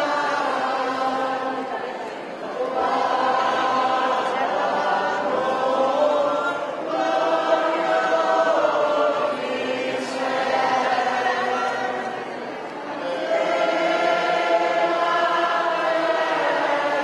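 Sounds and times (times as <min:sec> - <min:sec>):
men and women singing together: 0:00.0 - 0:17.0.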